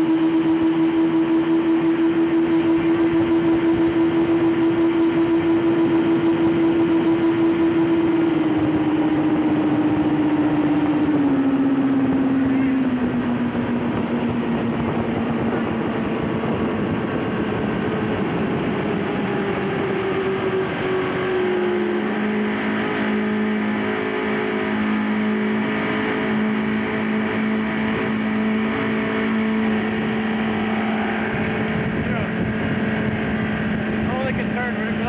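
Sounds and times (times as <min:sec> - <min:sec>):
motorboat engine running: 0:00.0 - 0:35.0
wind noise: 0:00.0 - 0:35.0.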